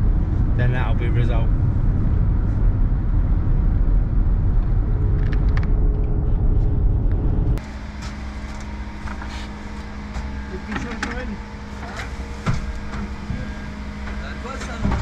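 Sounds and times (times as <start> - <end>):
car engine and road rumble: 0.0 - 15.0
steady low hum: 0.0 - 15.0.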